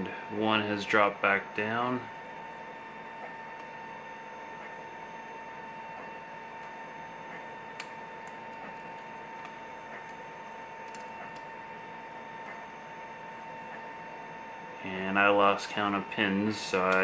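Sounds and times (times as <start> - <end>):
high hum and hiss: 0.0 - 17.0.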